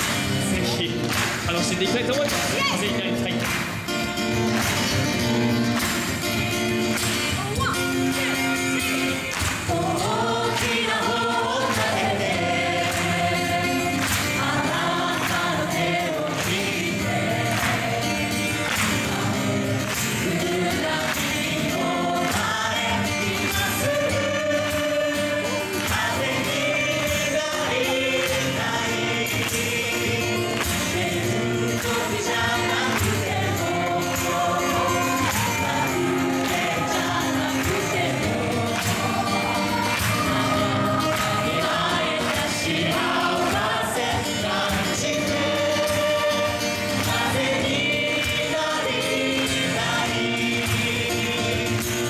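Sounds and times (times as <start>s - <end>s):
group singing in chorus: 3.6s - 52.0s.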